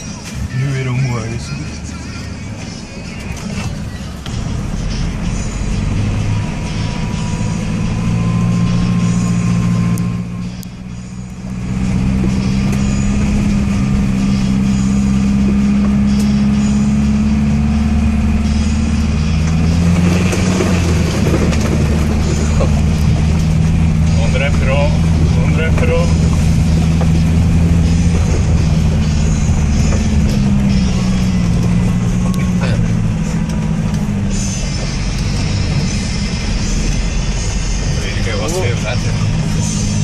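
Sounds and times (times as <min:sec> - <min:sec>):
vehicle engine under load: 0:01.6 - 0:40.0.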